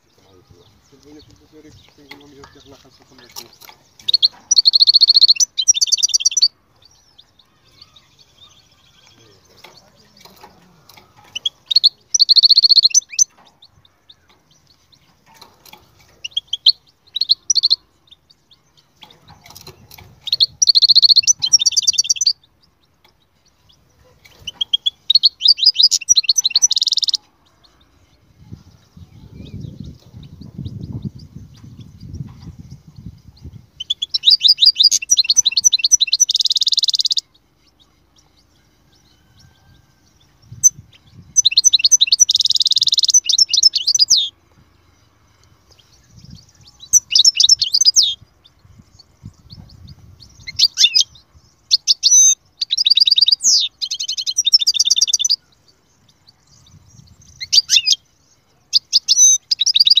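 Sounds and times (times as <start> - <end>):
goldfinch singing: 0.0 - 60.0.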